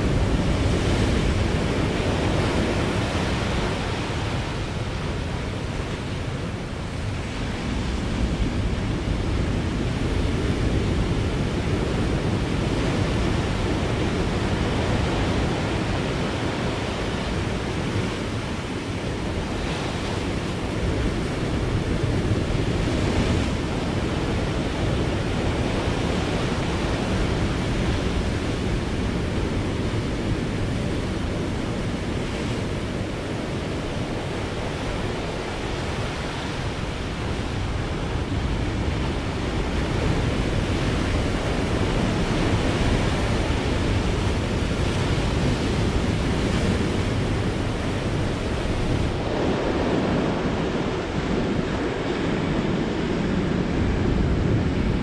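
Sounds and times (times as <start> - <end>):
surf breaking on shore: 0.0 - 55.0.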